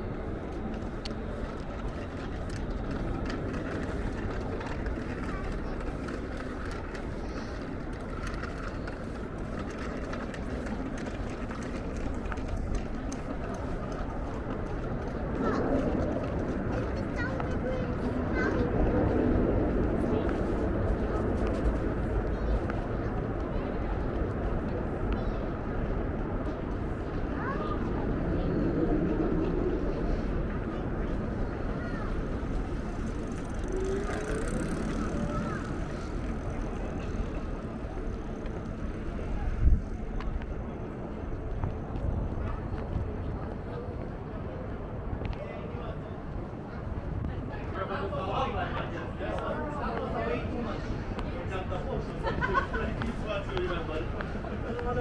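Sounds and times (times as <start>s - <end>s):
low city hum: 0.0s - 55.0s.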